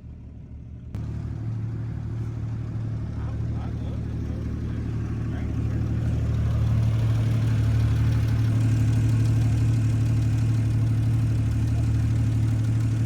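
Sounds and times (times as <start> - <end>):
car engine idling: 0.2 - 13.0.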